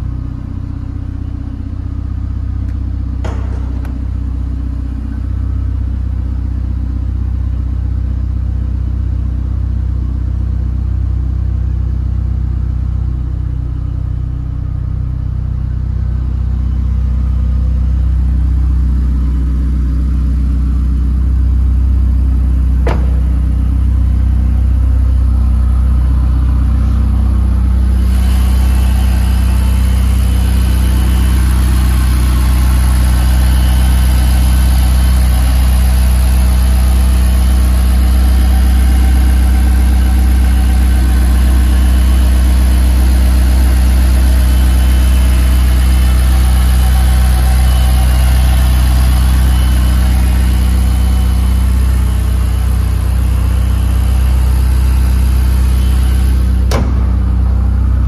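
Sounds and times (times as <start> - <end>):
car engine humming: 0.0 - 10.2, 12.0 - 58.0.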